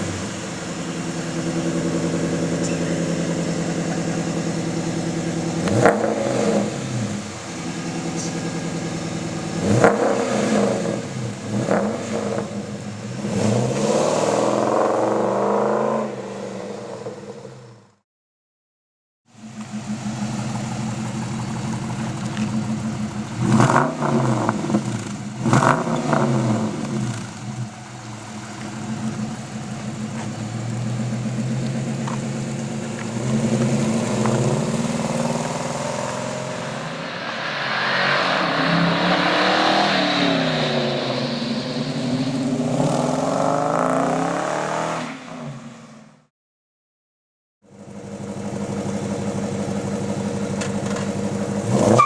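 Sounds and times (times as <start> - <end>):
car engine idling and revving: 0.0 - 18.0, 19.3 - 46.3, 47.6 - 52.0.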